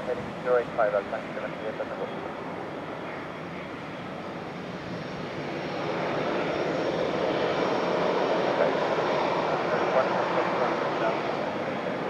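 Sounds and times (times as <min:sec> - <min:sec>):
airliner engines rushing: 0:00.0 - 0:12.0.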